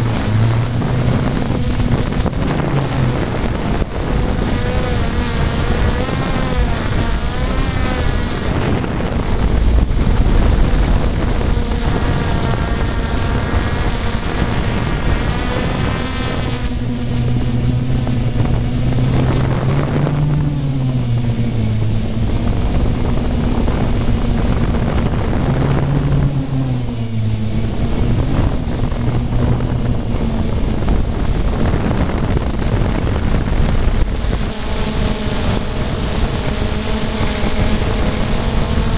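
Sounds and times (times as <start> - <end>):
drone motors and propellers: 0.0 - 38.9.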